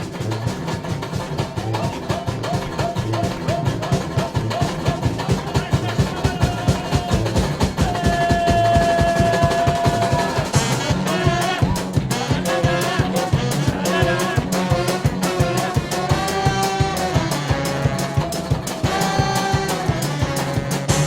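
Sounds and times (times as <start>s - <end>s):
brass band playing: 0.0s - 21.0s
steady drum beat: 0.0s - 21.0s.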